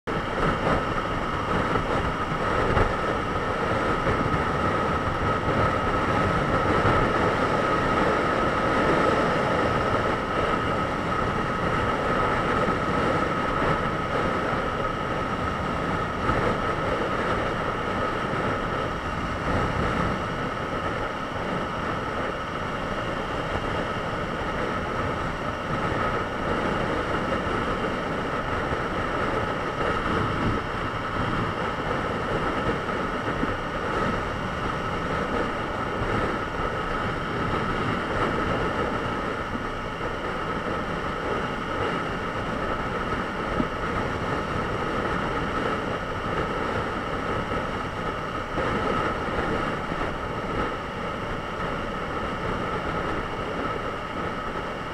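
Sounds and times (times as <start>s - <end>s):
road noise: 0.0s - 54.9s
wind noise: 0.1s - 54.9s.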